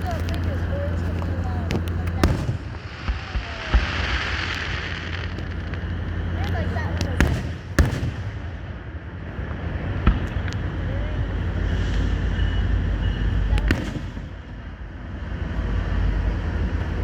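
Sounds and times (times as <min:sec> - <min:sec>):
fireworks bangs: 0:00.0 - 0:14.7
low rumble: 0:00.0 - 0:17.0.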